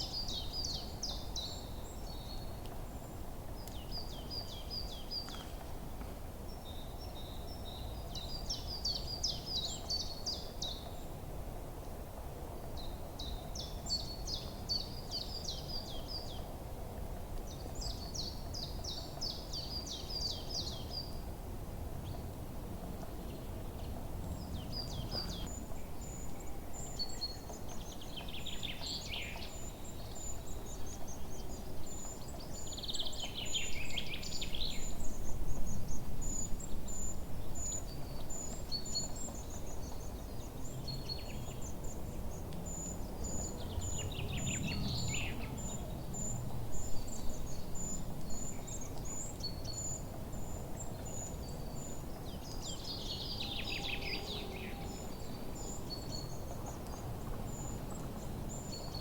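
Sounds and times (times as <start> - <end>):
songbirds singing: 0.0 - 11.8, 12.7 - 16.6, 17.3 - 21.3, 23.0 - 59.0.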